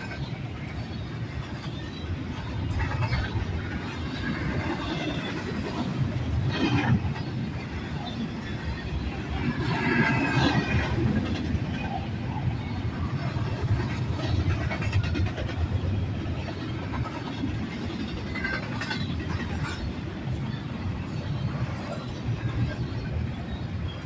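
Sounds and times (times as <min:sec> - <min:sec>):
steel train wheels rumbling on rail: 0:00.0 - 0:24.0.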